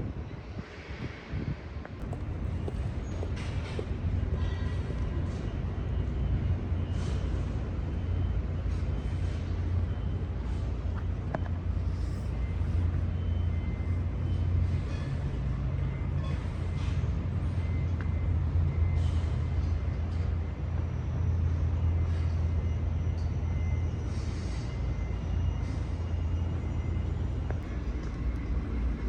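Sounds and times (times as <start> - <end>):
low city rumble: 0.0 - 29.0.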